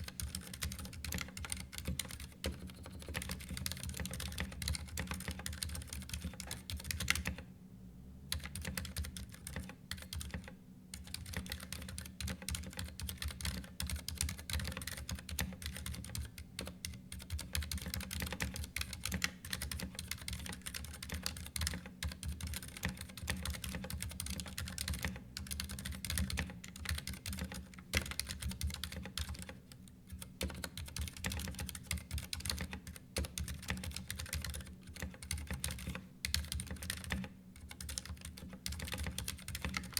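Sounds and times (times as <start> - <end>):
mechanical keyboard typing: 0.0 - 7.4, 8.3 - 39.9.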